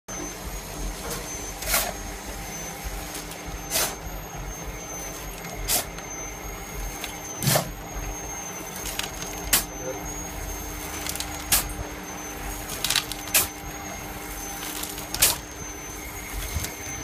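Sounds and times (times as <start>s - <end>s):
air compressor running: 0.1s - 17.0s.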